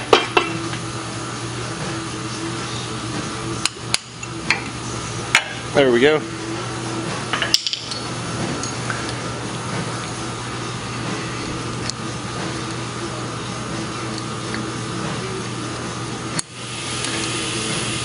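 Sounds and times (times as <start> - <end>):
mechanical hum with hiss: 0.0 - 18.0.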